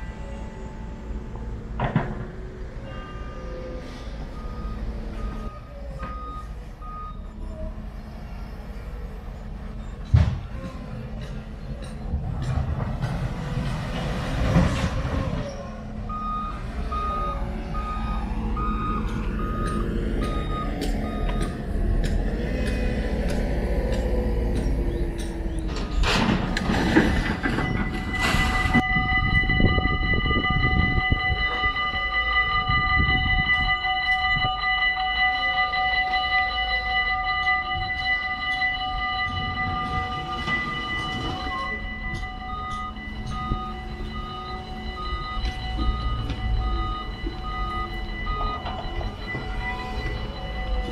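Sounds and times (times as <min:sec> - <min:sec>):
level crossing warning bells: 0:00.0 - 0:07.8, 0:08.5 - 0:26.0, 0:26.6 - 0:50.9
roadwork machinery rumbling: 0:00.0 - 0:50.9
reversing alarm beeping: 0:02.5 - 0:07.8, 0:14.6 - 0:26.0, 0:26.6 - 0:50.9.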